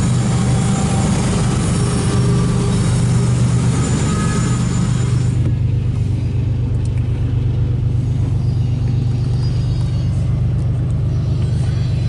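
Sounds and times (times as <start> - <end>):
freight train cars rolling past: 0.0 - 12.0.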